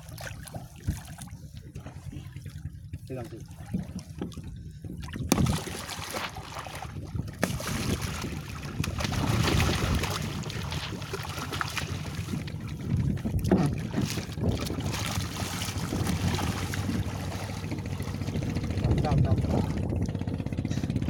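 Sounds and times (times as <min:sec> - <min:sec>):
fish thrashing in water: 0:00.0 - 0:20.2
low rumble: 0:00.0 - 0:21.0
water splashing against boat hull: 0:00.0 - 0:21.0
wind buffeting microphone: 0:00.0 - 0:21.0.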